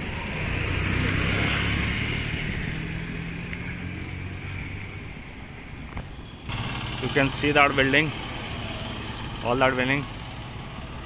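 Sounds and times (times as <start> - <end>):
vehicle passing: 0.0 - 5.2, 6.5 - 11.0.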